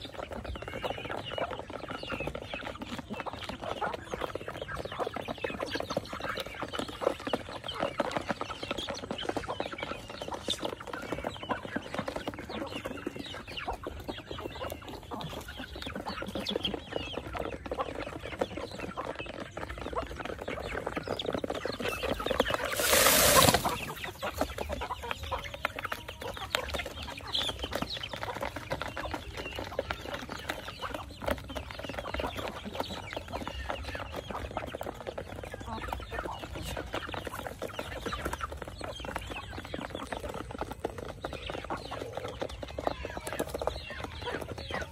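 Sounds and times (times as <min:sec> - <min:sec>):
chickens clucking: 0:00.0 - 0:44.9
chickens pecking and scratching: 0:00.0 - 0:44.9.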